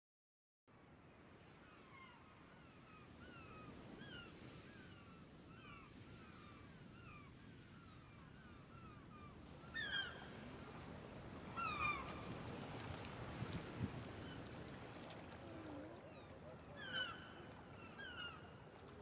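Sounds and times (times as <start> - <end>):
faint water and wind: 0.7 - 19.0.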